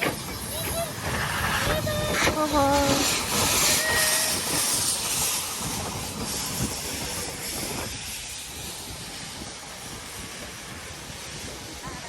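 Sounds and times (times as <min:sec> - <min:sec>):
steam hissing from locomotive: 0:00.0 - 0:12.0.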